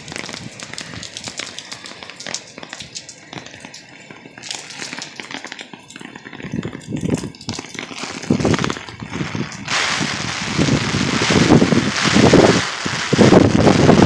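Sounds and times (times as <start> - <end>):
wind rumbling on microphone: 0.0 - 3.7, 5.8 - 14.0
heavy rain pouring: 0.0 - 14.0.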